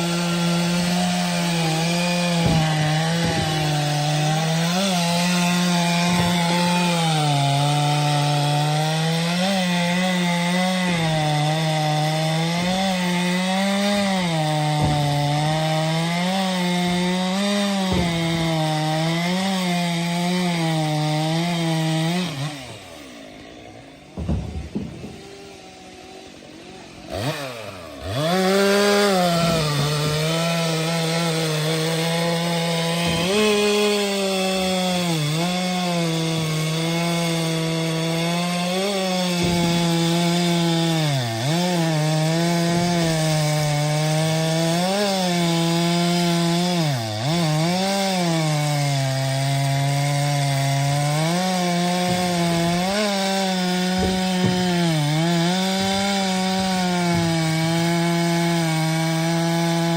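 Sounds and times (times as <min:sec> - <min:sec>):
chainsaw cutting firewood: 0:00.0 - 0:59.9.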